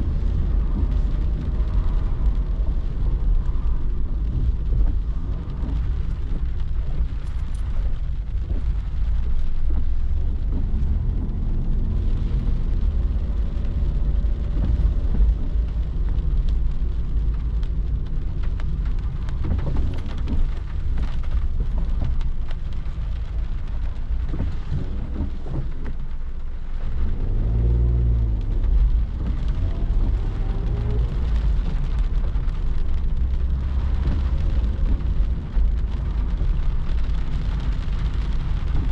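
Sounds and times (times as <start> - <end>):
car road and engine rumble: 0.0 - 38.9
rain hissing on car body: 0.0 - 38.9.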